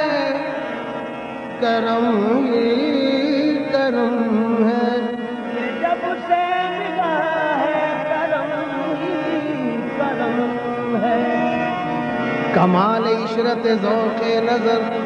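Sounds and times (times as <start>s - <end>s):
ornamented melody over drone: 0.0s - 15.0s.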